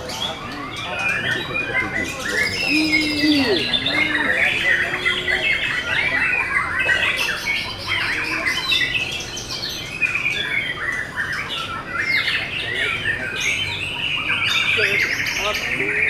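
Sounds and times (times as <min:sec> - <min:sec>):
songbirds whistling and chattering: 0:00.0 - 0:16.0.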